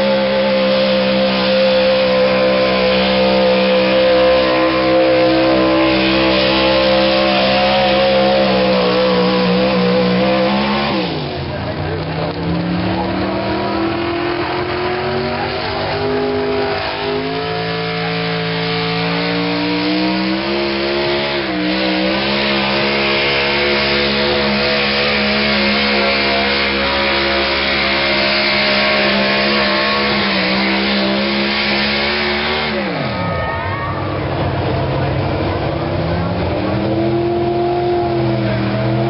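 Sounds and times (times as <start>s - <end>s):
spinning tires and flying dirt: 0.0s - 39.0s
truck engine at high revs: 0.0s - 39.0s.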